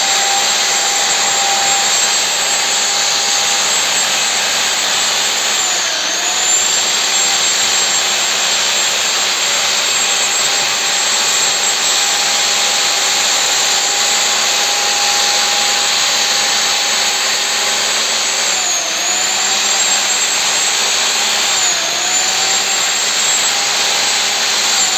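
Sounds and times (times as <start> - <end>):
electric power tool whining: 0.0 - 24.9.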